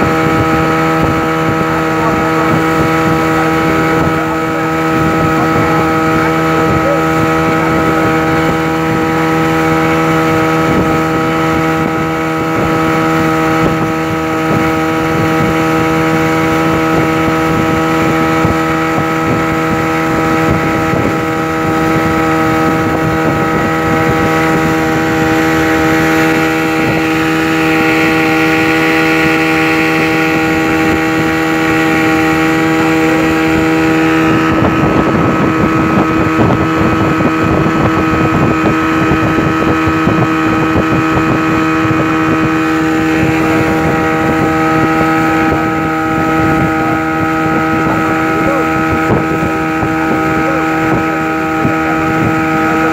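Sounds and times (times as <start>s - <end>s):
choppy rushing water: 0.0s - 52.9s
speedboat engine running: 0.0s - 52.9s
water rushing along hull: 0.0s - 52.9s.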